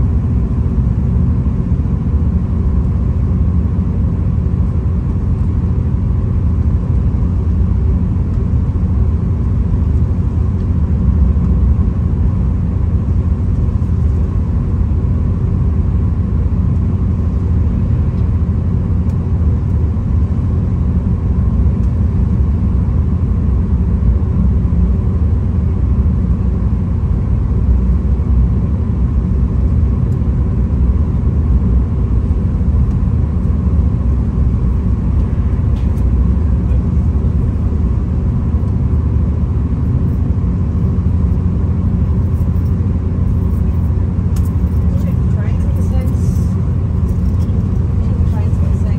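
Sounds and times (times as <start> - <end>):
diesel railcar rumble from inside: 0.0 - 48.9.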